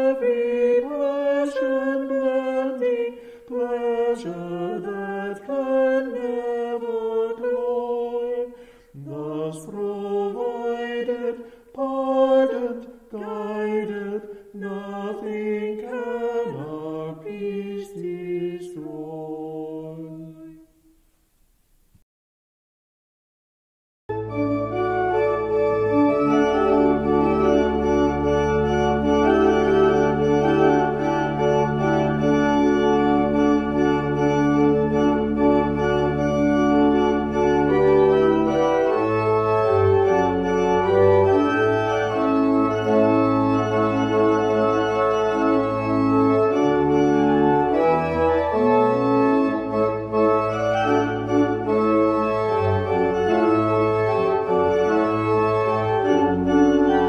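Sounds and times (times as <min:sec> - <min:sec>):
organ playing chords: 0:00.0 - 0:20.6, 0:24.1 - 0:57.0.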